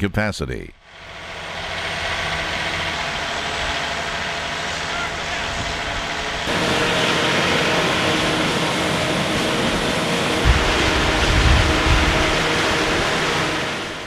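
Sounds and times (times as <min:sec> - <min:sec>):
engine hum: 0:00.8 - 0:14.0.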